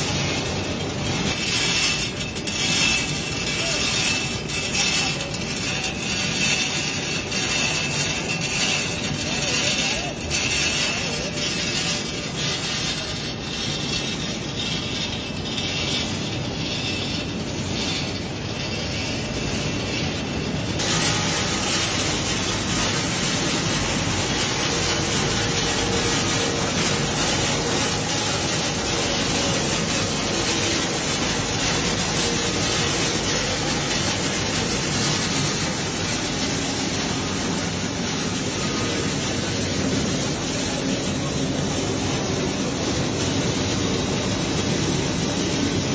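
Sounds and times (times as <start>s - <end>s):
production line machinery running: 0.0s - 45.9s.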